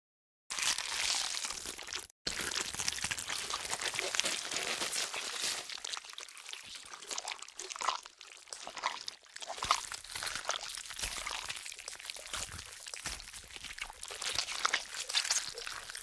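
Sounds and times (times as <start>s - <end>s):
wet flesh tearing and chewing: 0.5s - 16.0s.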